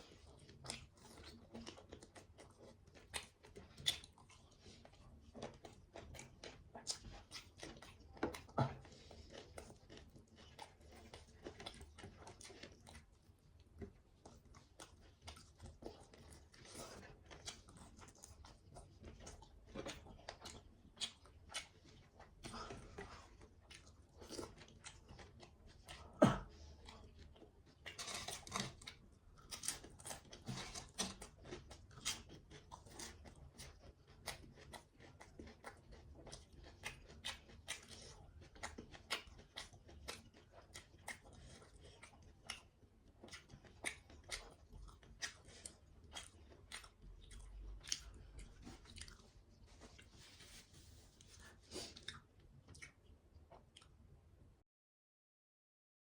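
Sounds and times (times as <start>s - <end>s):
person chewing with wet clicks: 0.0s - 54.1s.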